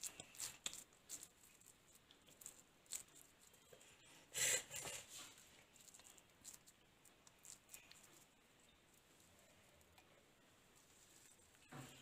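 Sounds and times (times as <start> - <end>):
hands squishing soft mixture: 0.0 - 12.0.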